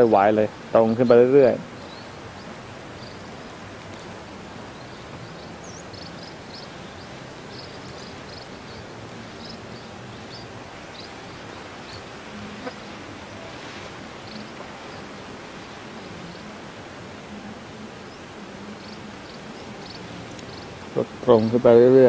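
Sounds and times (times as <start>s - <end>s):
outdoor background hiss: 0.0s - 22.0s
small birds chirping: 0.0s - 22.0s.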